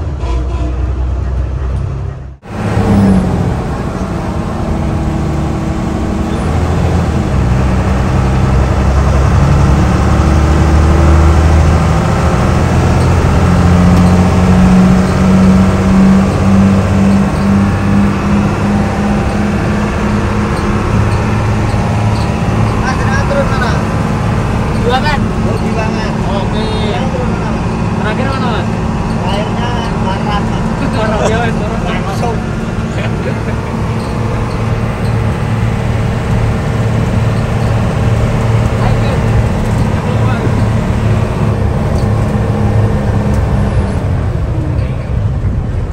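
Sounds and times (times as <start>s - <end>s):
bus diesel engine under load: 0.0s - 45.9s.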